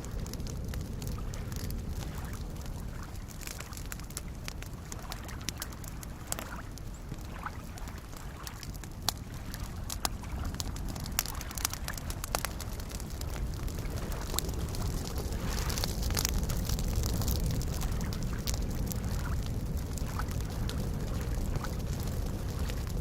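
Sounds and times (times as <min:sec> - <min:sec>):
campfire crackling and popping: 0:00.0 - 0:23.0
lake waves lapping: 0:00.4 - 0:22.9.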